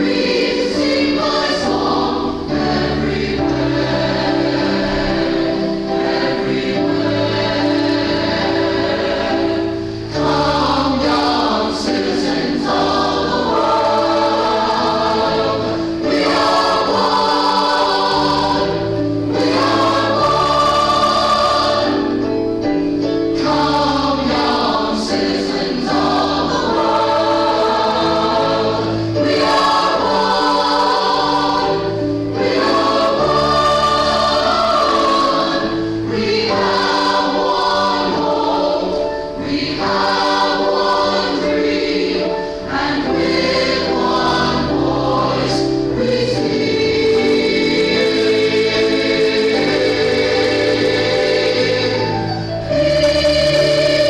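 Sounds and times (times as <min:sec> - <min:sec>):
choir singing a gospel hymn: 0:00.0 - 0:54.0.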